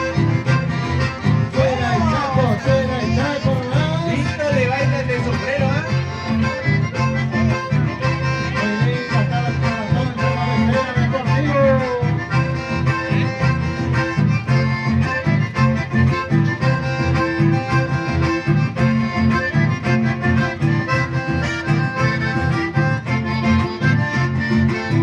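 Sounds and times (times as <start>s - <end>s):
accordions playing melody: 0.0s - 25.0s
acoustic guitar strumming: 0.0s - 25.0s.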